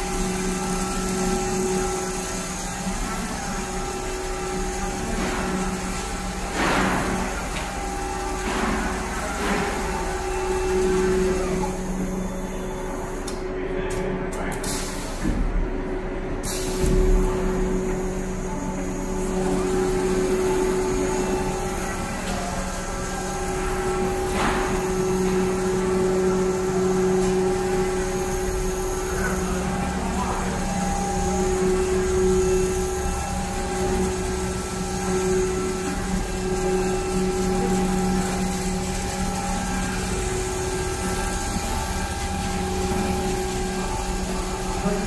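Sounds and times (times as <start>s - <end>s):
factory machinery humming: 0.0s - 45.0s.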